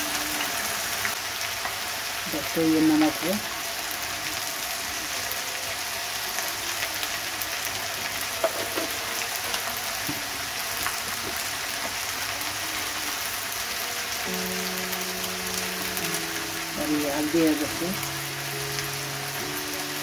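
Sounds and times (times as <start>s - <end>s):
okra sizzling in a wok: 0.0s - 20.0s.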